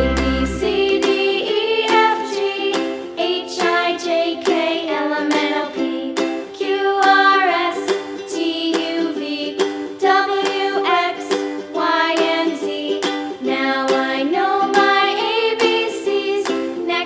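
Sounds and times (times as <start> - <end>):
light plucked-string music: 0.0 - 17.0.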